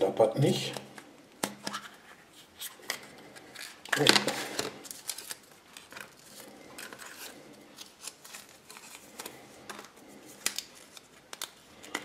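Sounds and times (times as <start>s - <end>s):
paper rustling: 1.6s - 12.0s.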